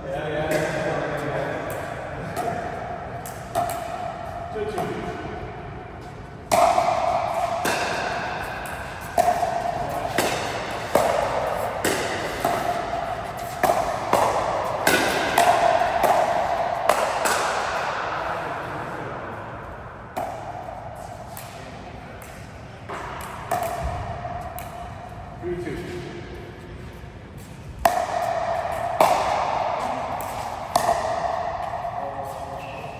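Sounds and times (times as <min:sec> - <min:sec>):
racket hitting ball: 0:00.4 - 0:18.9, 0:19.9 - 0:25.3, 0:27.8 - 0:32.9.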